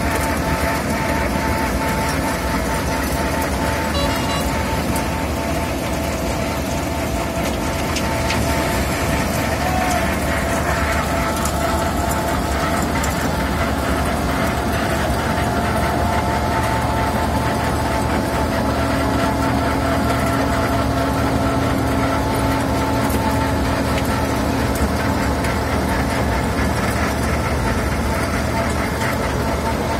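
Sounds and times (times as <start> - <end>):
milling machine engine drone: 0.0 - 29.9
steady mechanical whine: 0.0 - 29.9.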